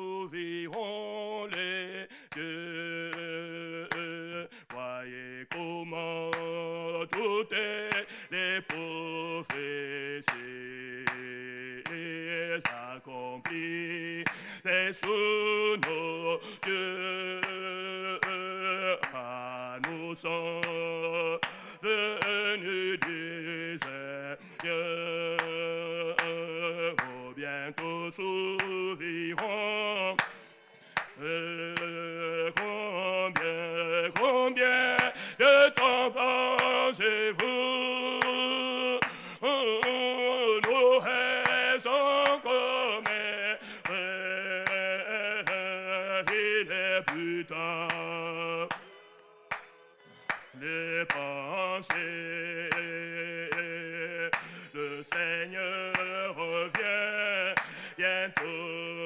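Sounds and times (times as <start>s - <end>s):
congregation singing a hymn: 0.0s - 59.0s
man leading singing: 0.0s - 59.0s
hand clapping: 0.7s - 0.9s, 1.5s - 1.7s, 2.3s - 58.8s.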